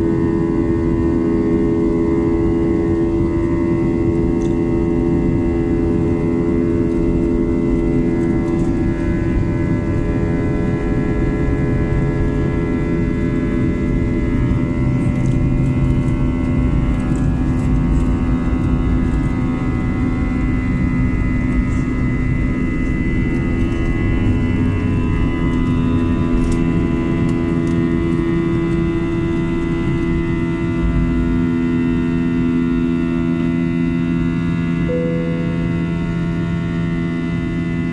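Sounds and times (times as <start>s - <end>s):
jet engines rumbling in cabin: 0.0s - 37.9s.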